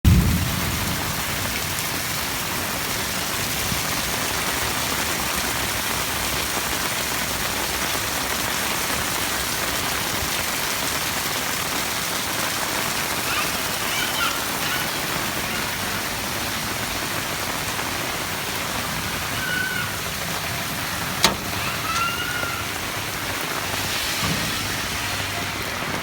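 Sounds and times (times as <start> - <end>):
heavy rain splattering: 0.0 - 26.0.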